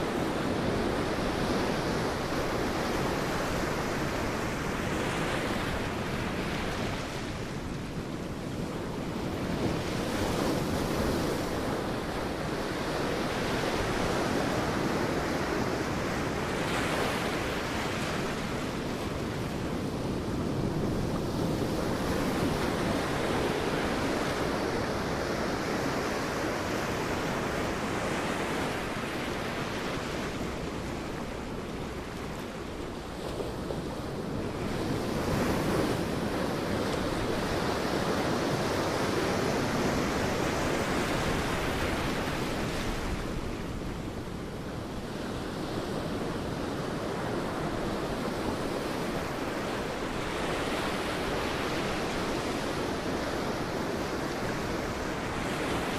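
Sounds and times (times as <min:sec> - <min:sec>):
sea waves breaking on a beach: 0:00.0 - 0:55.9.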